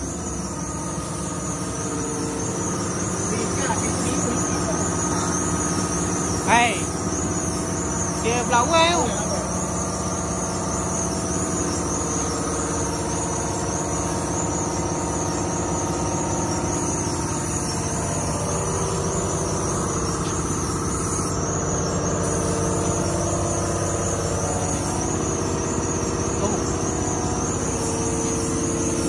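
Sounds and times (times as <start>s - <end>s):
high wavering whine: 0.0s - 29.0s
motor running steadily: 0.0s - 29.0s.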